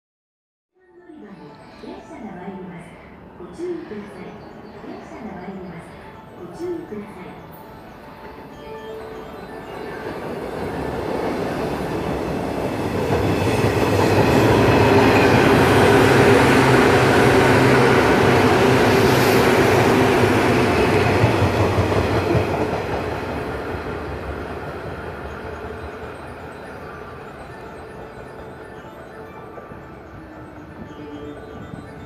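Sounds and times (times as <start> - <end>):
electric train passing: 1.1 - 32.0.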